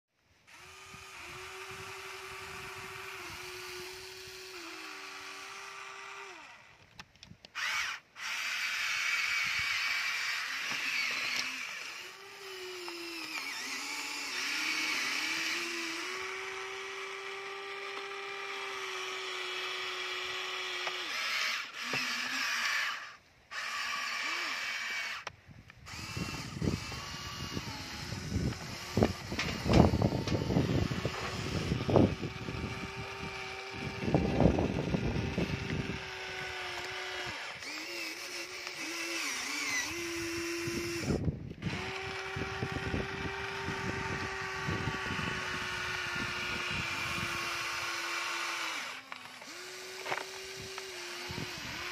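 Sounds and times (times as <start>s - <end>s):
toy excavator electric motors whining: 0.4s - 51.9s.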